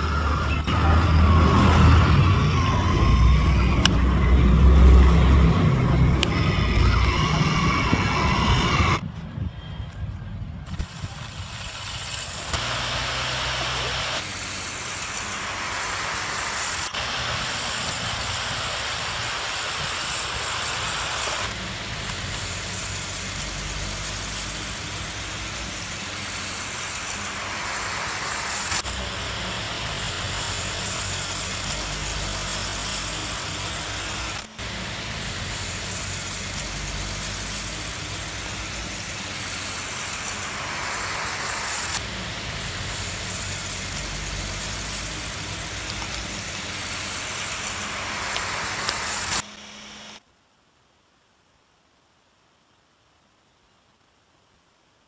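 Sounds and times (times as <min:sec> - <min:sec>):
electric lawn mower motor whirring: 0:00.0 - 0:09.0, 0:10.7 - 0:50.2.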